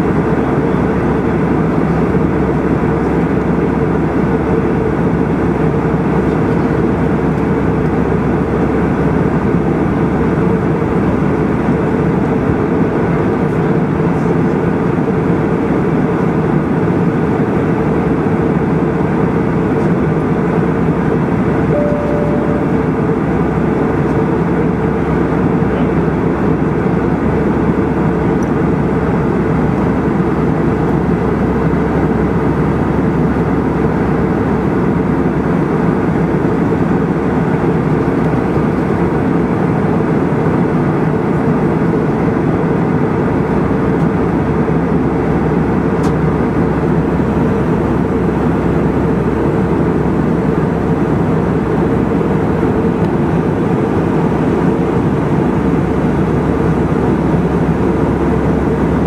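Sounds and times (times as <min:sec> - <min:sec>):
jet airliner cabin engine noise: 0:00.0 - 0:59.0.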